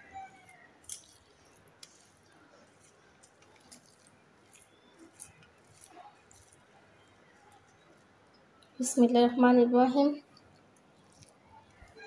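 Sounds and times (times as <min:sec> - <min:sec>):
rice mixed by hand in bowl: 0:00.0 - 0:08.2, 0:10.2 - 0:12.0.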